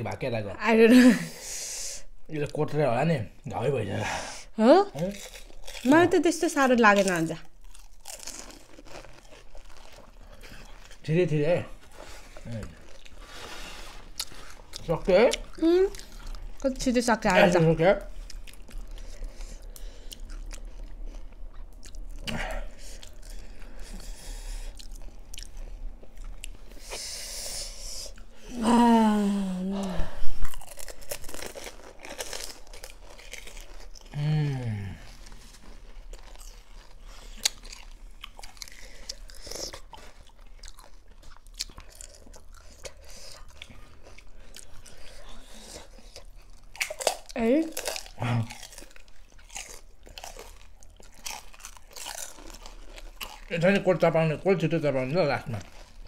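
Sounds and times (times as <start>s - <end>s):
crisp shells crunching and chewing: 5.0s - 27.0s, 29.8s - 56.0s.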